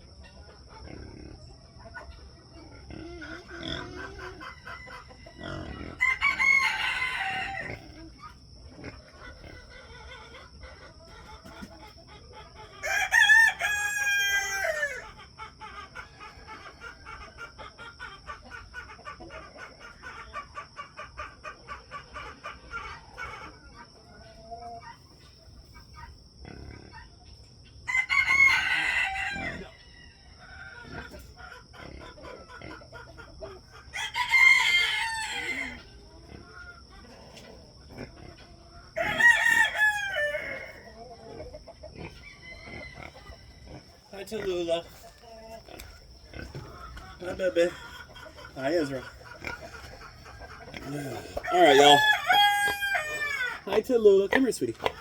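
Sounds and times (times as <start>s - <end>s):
hens clucking: 0.0s - 55.0s
roosters crowing: 2.5s - 25.0s, 27.6s - 55.0s.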